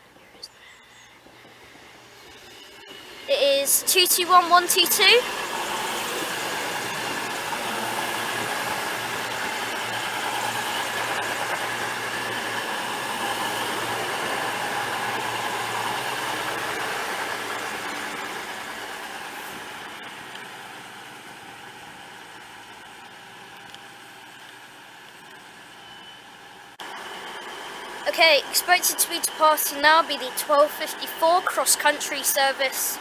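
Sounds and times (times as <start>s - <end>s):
diesel train engine hum and whine: 0.0s - 33.0s.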